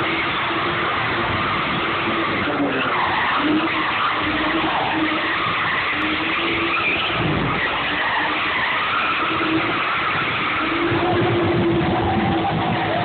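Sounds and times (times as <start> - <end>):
car engine running: 0.0 - 13.0
tyres squealing and skidding: 0.0 - 13.0.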